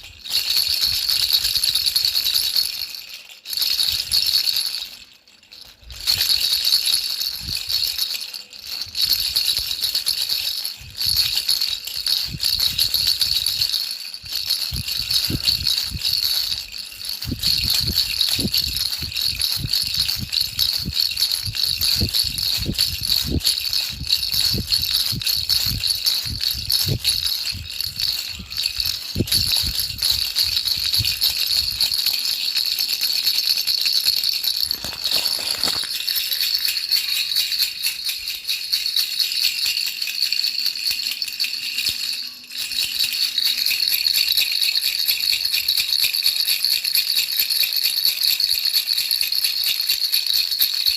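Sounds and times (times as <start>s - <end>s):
baby rattle shaking: 0.0s - 50.9s.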